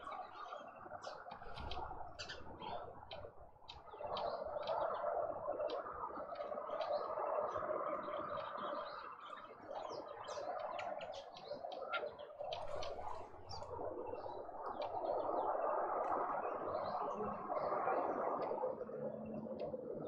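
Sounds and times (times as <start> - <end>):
many birds chirping: 0.0 - 20.0.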